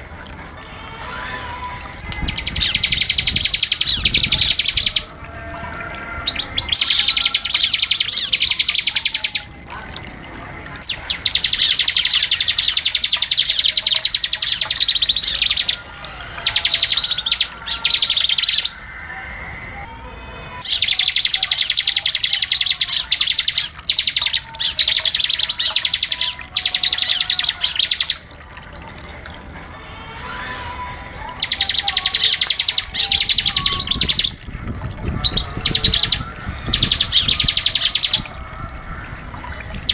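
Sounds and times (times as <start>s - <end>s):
bird singing rapid high trills: 0.0s - 19.2s, 20.6s - 39.9s.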